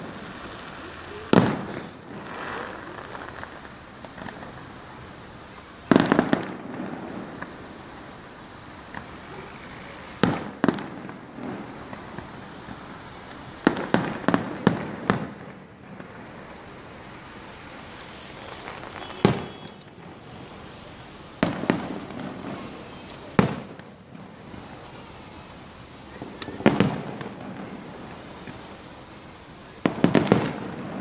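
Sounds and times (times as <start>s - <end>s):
fireworks exploding: 0.0s - 31.0s.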